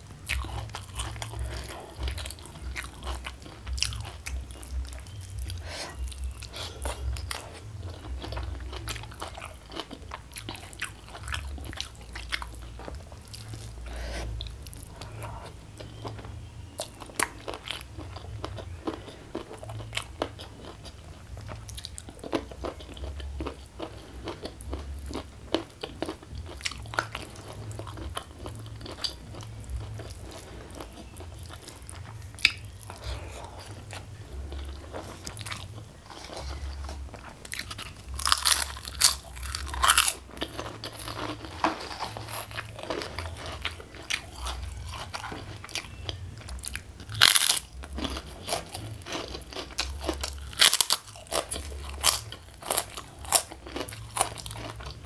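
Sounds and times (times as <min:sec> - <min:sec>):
wet chewing with crunches: 0:00.0 - 0:55.0.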